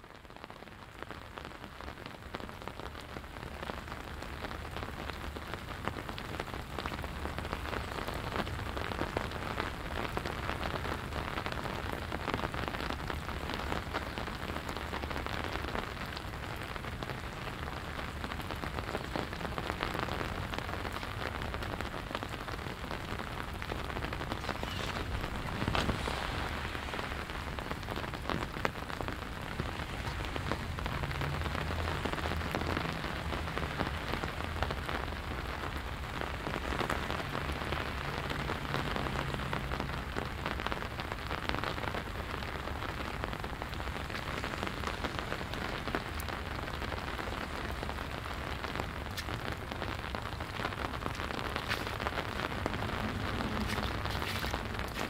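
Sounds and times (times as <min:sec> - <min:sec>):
rain falling on pavement: 0:00.0 - 0:55.0.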